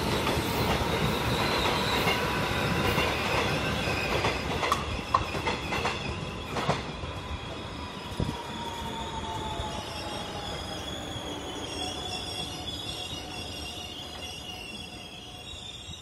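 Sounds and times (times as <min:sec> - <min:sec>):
train wheels squealing: 0:00.0 - 0:16.0.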